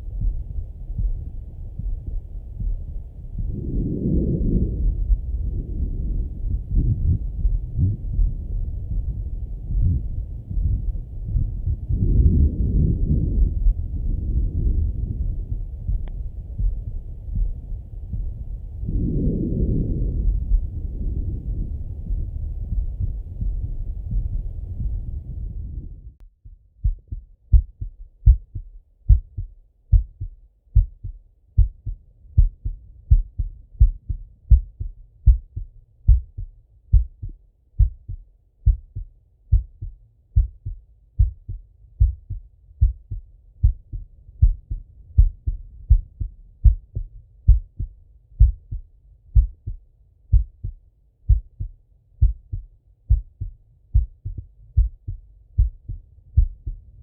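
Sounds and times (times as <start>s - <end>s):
heartbeat through stethoscope: 0.0s - 57.0s.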